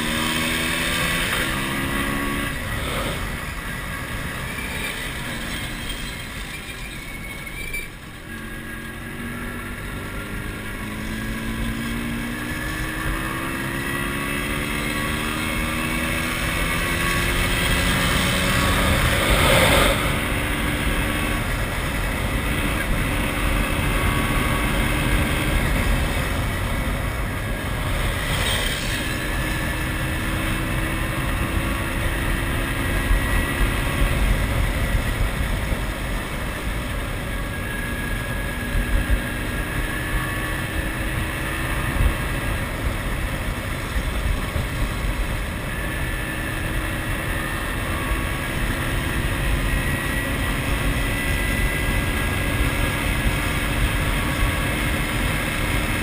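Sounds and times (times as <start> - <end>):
wind and road noise: 0.0 - 56.0
motorcycle engine running: 8.0 - 56.0.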